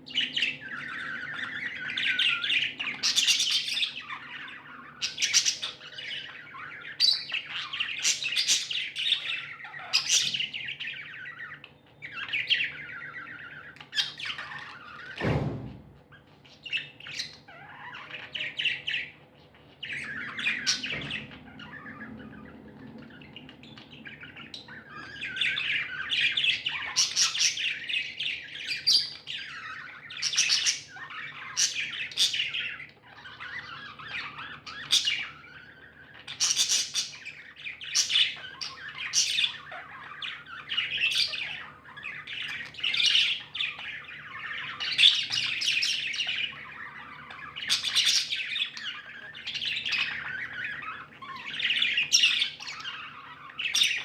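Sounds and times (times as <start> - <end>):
budgerigars chirping: 0.0 - 15.5, 16.1 - 54.0.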